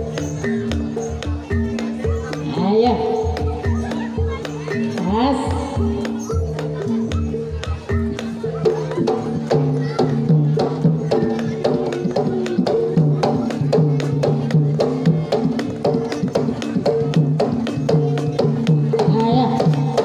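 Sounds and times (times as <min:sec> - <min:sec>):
drum strokes: 0:00.0 - 0:20.0.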